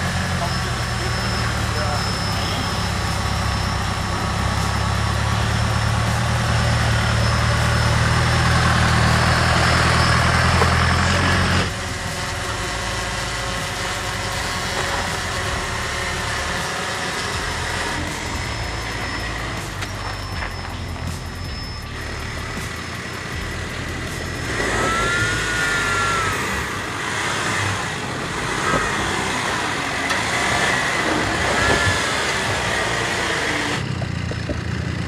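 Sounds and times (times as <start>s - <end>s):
quiet steady vehicle noise: 0.0s - 35.0s
vehicle engine running at low revs: 0.0s - 35.0s.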